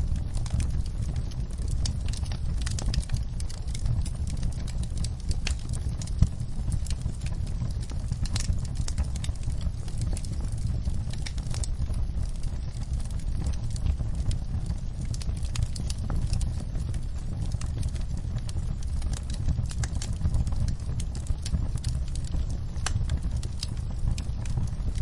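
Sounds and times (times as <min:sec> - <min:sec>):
fire crackling and popping: 0:00.0 - 0:25.0
low rumble: 0:00.0 - 0:25.0.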